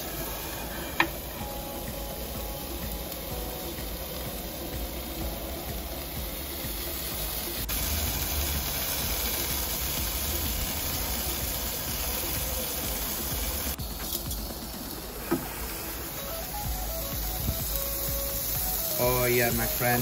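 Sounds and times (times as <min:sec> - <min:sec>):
oven flame rumble: 0:00.0 - 0:20.0
steak sizzling in a pan: 0:00.0 - 0:20.0.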